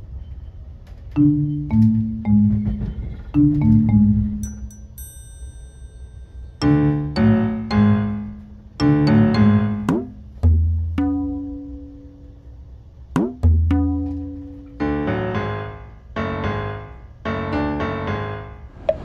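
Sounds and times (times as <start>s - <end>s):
slow instrumental music: 1.2s - 5.2s, 6.6s - 12.5s, 13.2s - 18.7s.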